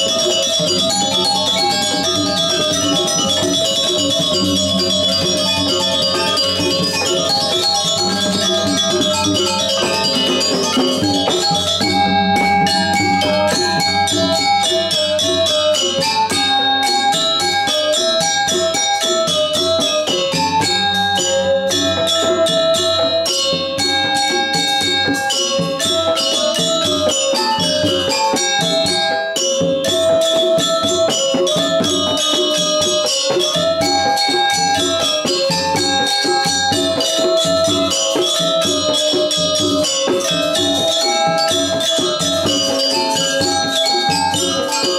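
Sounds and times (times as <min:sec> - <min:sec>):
hand-beaten drums: 0:00.0 - 0:44.9
metallophones playing fast melody: 0:00.0 - 0:44.9.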